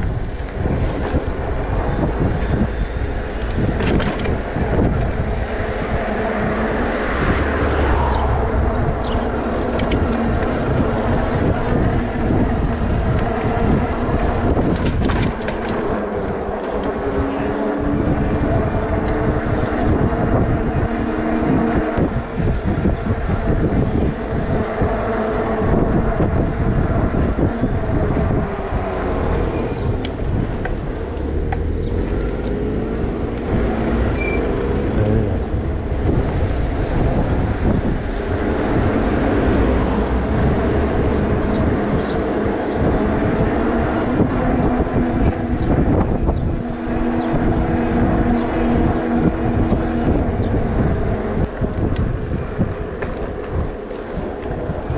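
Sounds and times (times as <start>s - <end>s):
electric bike running hum: 0.0s - 54.9s
wind buffeting microphone: 0.0s - 54.9s.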